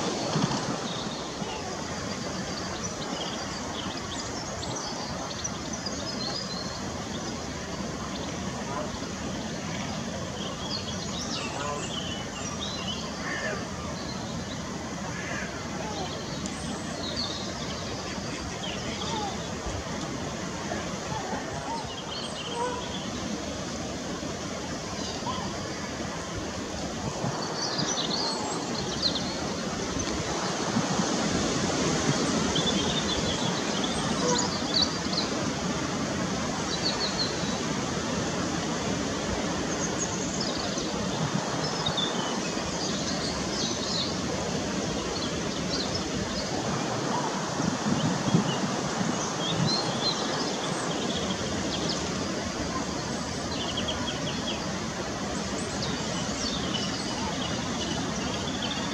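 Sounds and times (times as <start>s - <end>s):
outdoor background noise: 0.0s - 58.9s.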